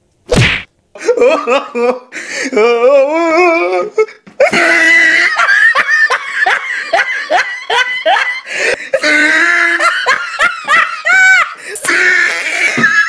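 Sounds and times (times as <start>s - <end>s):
person laughing: 1.0s - 13.0s.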